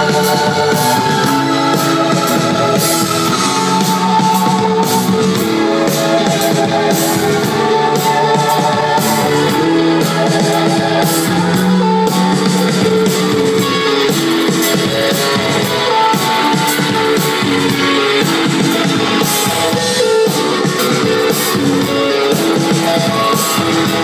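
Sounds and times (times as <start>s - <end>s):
bass guitar: 0.0s - 24.0s
drums with cymbal beat: 0.0s - 24.0s
electric guitar: 0.0s - 24.0s
keyboard: 0.0s - 24.0s.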